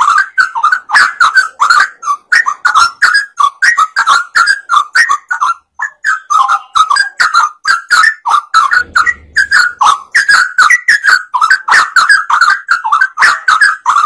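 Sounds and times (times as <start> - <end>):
bird singing whistled notes: 0.0 - 14.0.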